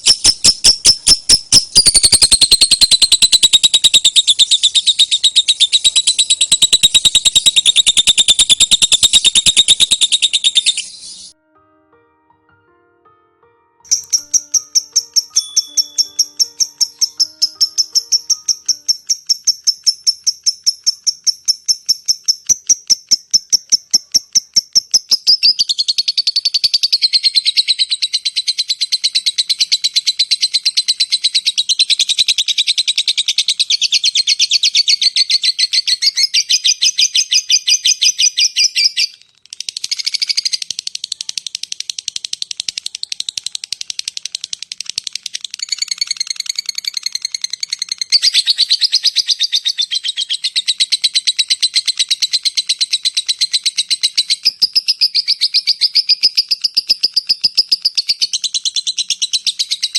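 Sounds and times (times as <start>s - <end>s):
lovebird chirping rattle: 0.0s - 11.3s, 13.9s - 59.9s.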